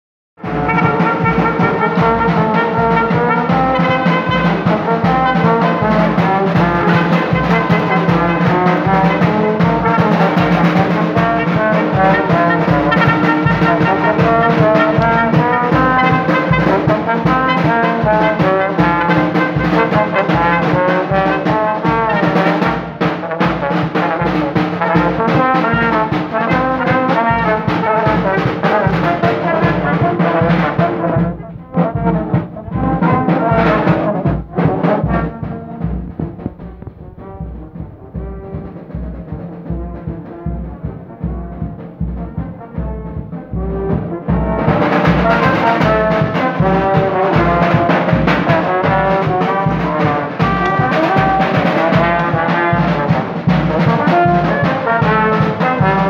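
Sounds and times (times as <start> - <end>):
bass drum beat: 0.4 - 56.0
brass horn melody: 0.4 - 56.0
snare drum: 0.4 - 56.0.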